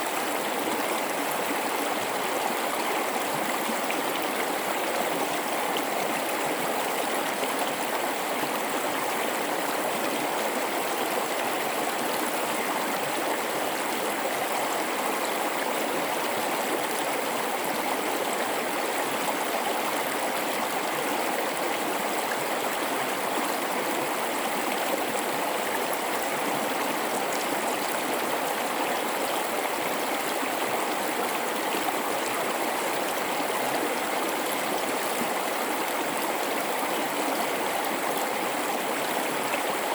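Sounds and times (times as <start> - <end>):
river rushing and babbling: 0.0 - 39.9.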